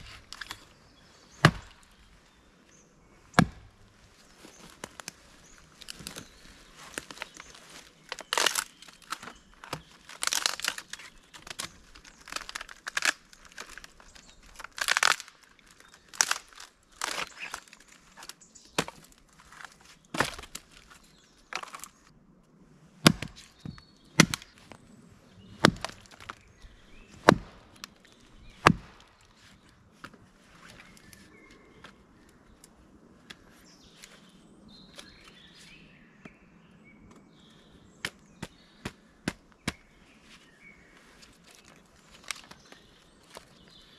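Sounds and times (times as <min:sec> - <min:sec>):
dry wood crackling and snapping: 0:00.0 - 0:02.3, 0:03.4 - 0:24.8, 0:25.5 - 0:34.2, 0:41.0 - 0:43.9.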